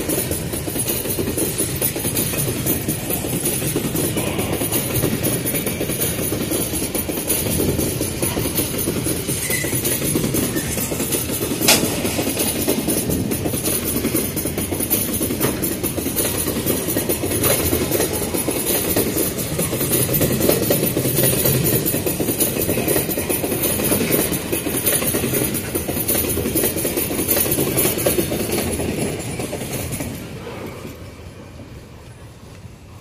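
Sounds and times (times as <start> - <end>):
wagon wheels clattering over rail joints: 0.0 - 30.8.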